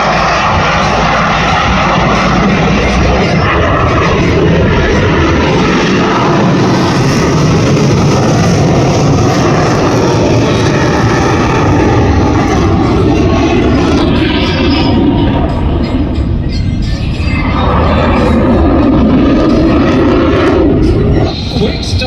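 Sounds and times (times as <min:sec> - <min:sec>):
jet in afterburner: 0:00.0 - 0:22.0.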